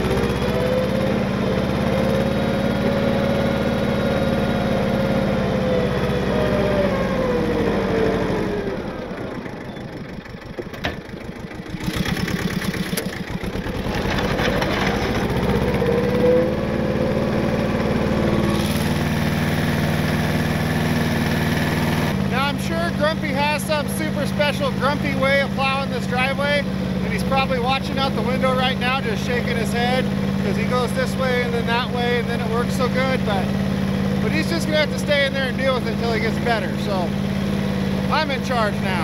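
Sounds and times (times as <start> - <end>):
grader blade pushing snow: 0.0 - 39.0
tractor engine running: 0.0 - 39.0.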